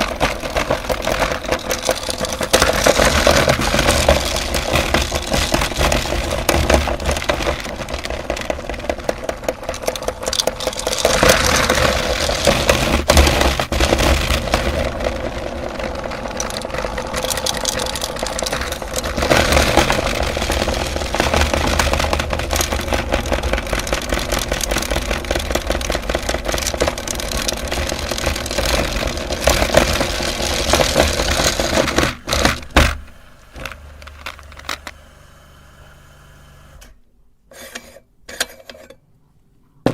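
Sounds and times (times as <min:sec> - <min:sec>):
electric grinder crunching candy: 0:00.0 - 0:37.0.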